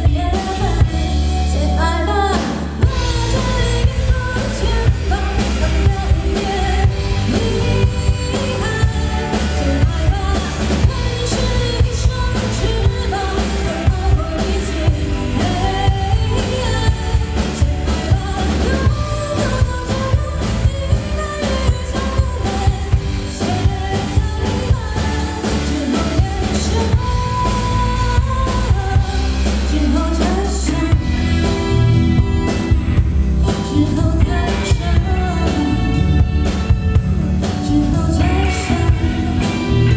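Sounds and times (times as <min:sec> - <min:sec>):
pop song with singing: 0:00.0 - 0:39.9.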